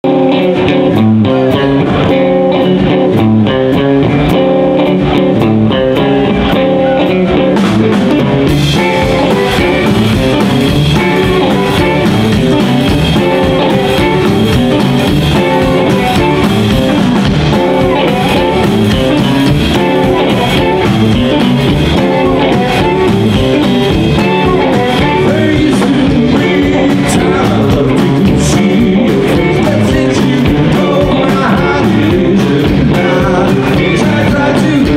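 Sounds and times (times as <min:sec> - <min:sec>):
drum kit: 0:00.0 - 0:34.9
electric guitars: 0:00.0 - 0:34.9
upright double bass: 0:00.0 - 0:34.9.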